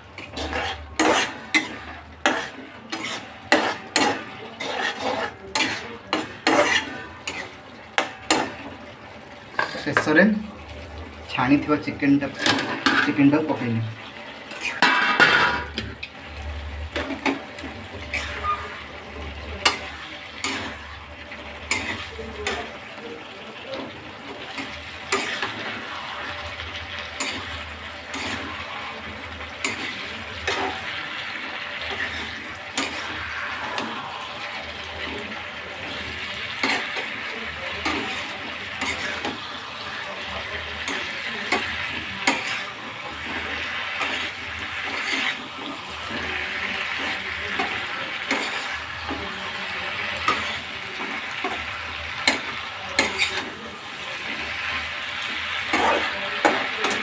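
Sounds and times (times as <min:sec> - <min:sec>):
metal spatula scraping wok: 0:00.0 - 0:08.8, 0:09.5 - 0:10.2, 0:11.8 - 0:57.0
food sizzling in oil: 0:00.0 - 0:57.0.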